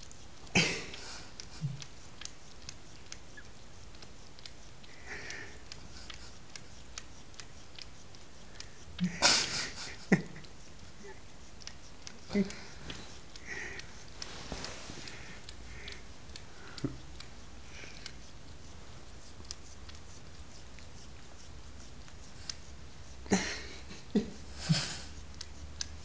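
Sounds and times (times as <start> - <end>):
cat tongue licking hair: 0.0 - 26.0.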